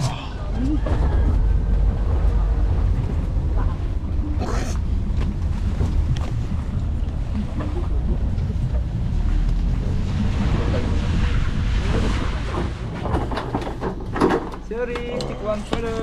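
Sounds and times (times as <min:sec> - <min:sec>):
truck rumbling: 0:00.0 - 0:16.0.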